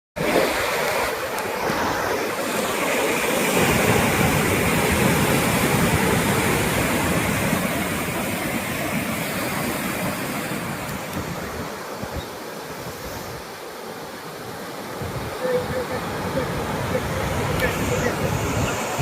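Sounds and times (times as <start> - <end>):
ocean surf: 0.2 - 19.0.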